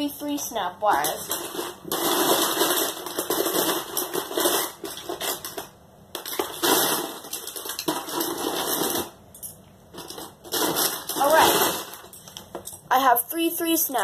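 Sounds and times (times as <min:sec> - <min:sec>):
plastic pieces rattling and clicking: 0:00.9 - 0:12.8.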